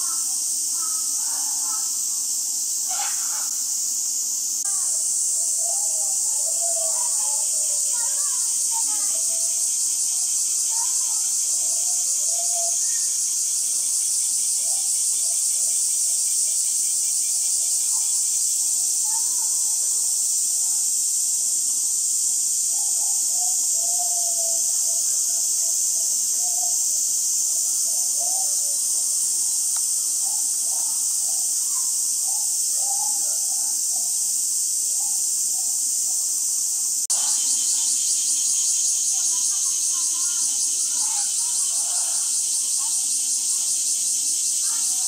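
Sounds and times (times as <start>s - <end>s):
insect chorus: 0.0s - 45.0s.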